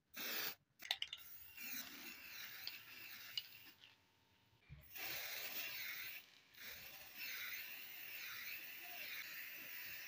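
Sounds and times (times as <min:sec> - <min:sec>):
spray paint can hissing: 0:00.1 - 0:03.8, 0:04.8 - 0:10.0.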